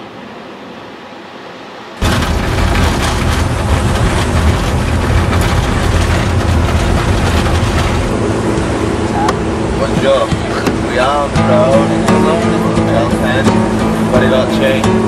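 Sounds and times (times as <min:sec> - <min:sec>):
vehicle engine and road rumble: 0:02.0 - 0:15.0.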